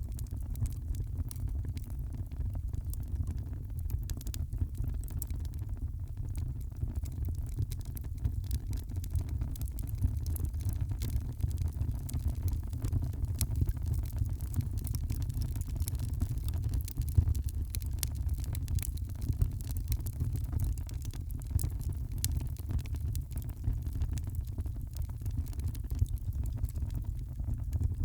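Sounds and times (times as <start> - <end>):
fire low rumble: 0.0 - 28.0
wood fire crackling and popping: 0.0 - 28.0.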